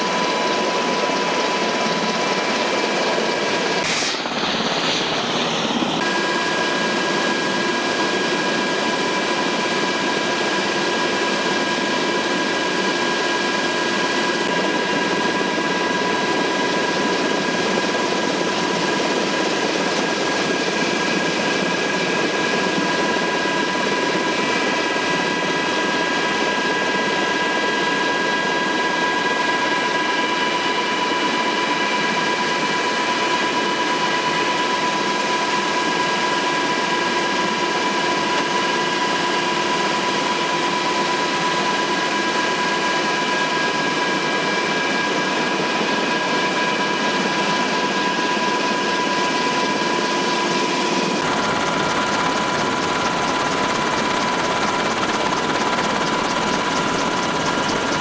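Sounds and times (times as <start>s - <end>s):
helicopter engine and rotor noise: 0.0s - 58.0s
high whine in steady tones: 0.0s - 58.0s.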